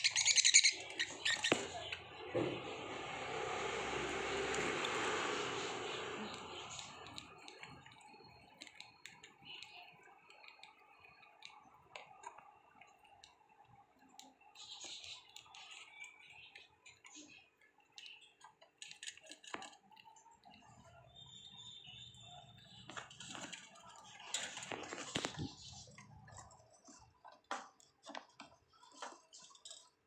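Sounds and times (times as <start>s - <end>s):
budgies pecking at leafy greens: 0.0s - 30.0s.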